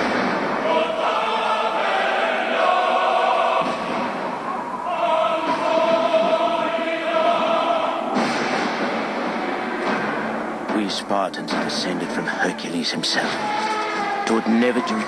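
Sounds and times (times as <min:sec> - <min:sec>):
dramatic trailer music with choir: 0:00.0 - 0:15.0.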